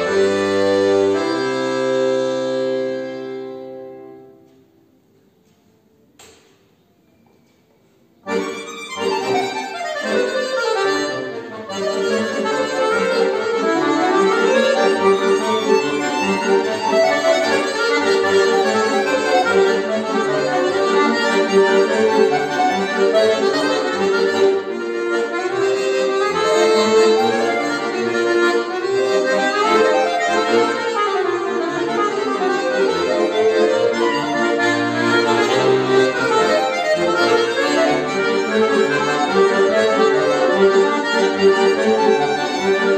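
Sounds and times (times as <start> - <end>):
button accordion solo: 0.0 - 4.6, 8.2 - 42.9.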